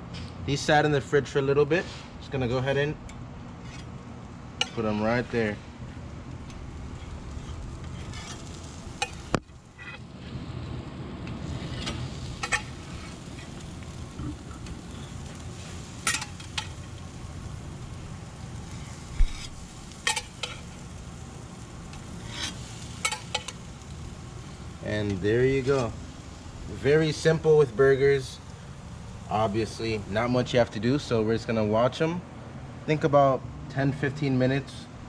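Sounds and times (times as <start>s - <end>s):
patties sizzling on grill: 0.6s - 32.2s.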